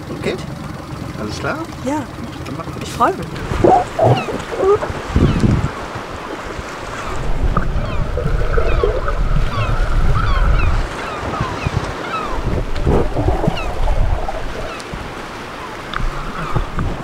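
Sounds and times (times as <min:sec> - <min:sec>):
sea water around boat: 0:00.0 - 0:17.0
seabirds calling: 0:00.0 - 0:17.0
wind: 0:00.0 - 0:17.0
wind rumble on microphone: 0:03.2 - 0:17.0.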